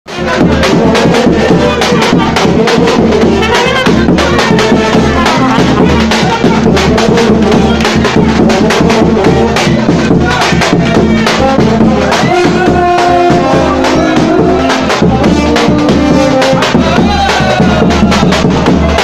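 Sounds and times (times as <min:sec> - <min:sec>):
trumpets and horns playing: 0:00.1 - 0:19.0.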